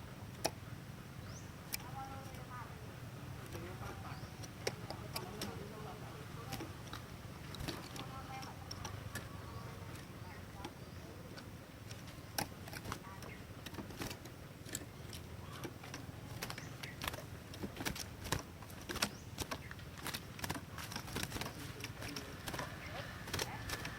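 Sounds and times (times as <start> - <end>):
low steady hum: 0.0 - 23.9
bird clicking chip notes: 0.2 - 2.7, 3.3 - 23.9.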